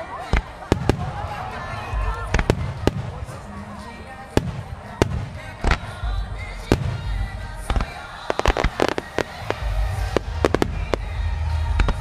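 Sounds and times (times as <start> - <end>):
fireworks shells bursting with bangs: 0.0 - 12.0
song playing: 0.0 - 12.0.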